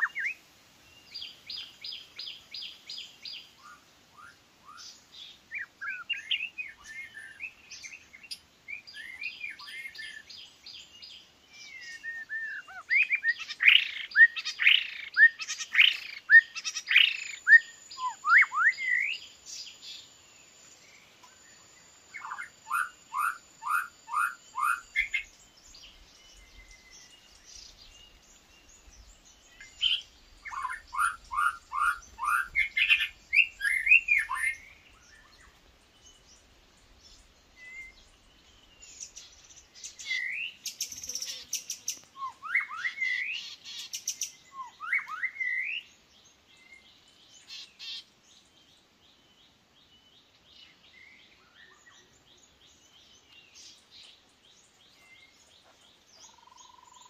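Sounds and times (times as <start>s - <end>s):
bird singing and calling: 0.0s - 57.0s.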